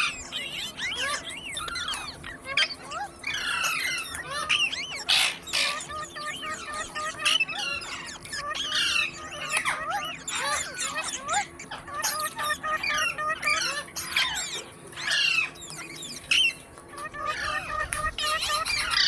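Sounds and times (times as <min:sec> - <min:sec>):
parrots chirping and squawking: 0:00.0 - 0:19.0.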